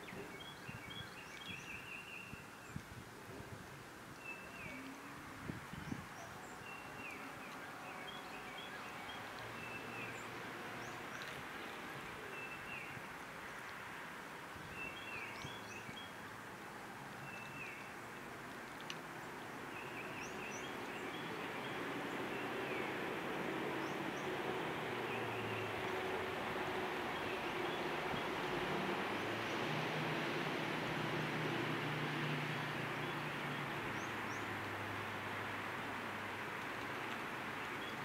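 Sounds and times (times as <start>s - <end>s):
steady background hiss: 0.0s - 38.0s.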